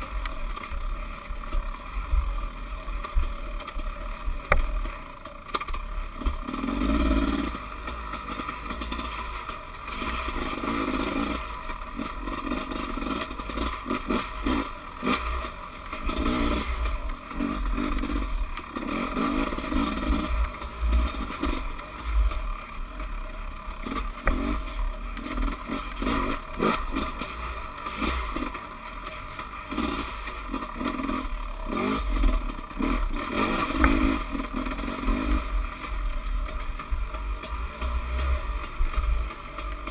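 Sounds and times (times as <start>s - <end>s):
dirt bike engine surging: 0.0s - 39.9s
bike clattering over bumps: 2.9s - 39.9s.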